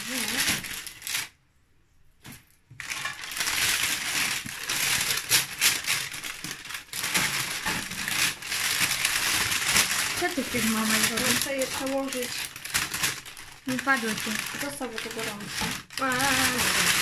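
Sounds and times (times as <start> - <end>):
baking paper crinkling: 0.0 - 1.4, 2.2 - 17.0.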